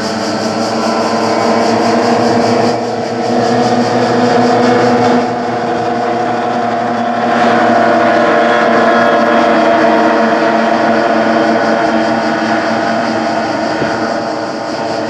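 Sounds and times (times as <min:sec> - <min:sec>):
powerboat engines racing: 0:00.0 - 0:15.0.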